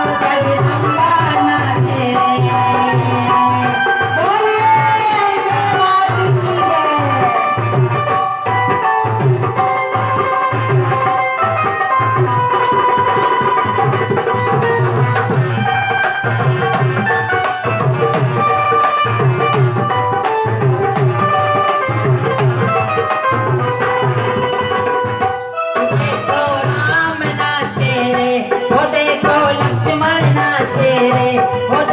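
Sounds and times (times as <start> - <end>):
devotional music with tabla: 0.0 - 31.9.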